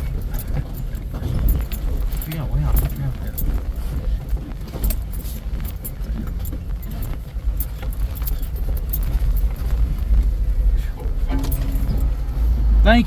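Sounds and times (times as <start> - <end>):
rattles and knocks: 0.0 - 12.8
vehicle engine rumble: 0.0 - 13.0.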